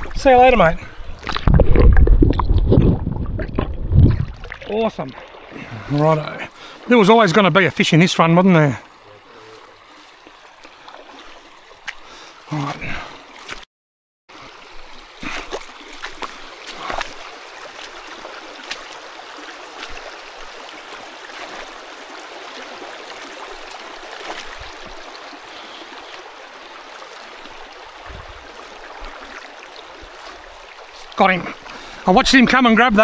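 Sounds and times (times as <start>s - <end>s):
stream running over stones: 0.0s - 13.7s, 14.3s - 33.0s.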